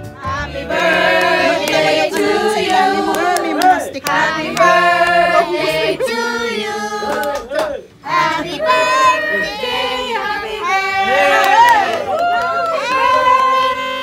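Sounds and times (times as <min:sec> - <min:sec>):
group of people singing: 0:00.0 - 0:11.8.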